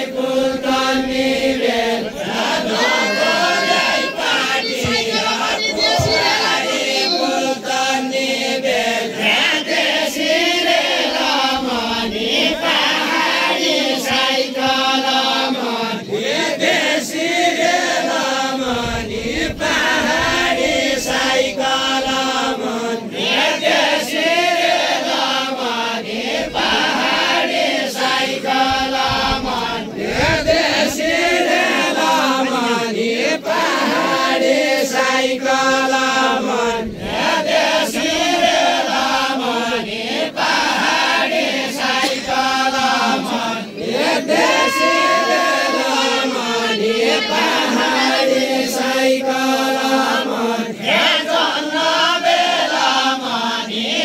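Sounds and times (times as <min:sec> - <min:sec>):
group of voices chanting: 0:00.0 - 0:54.0.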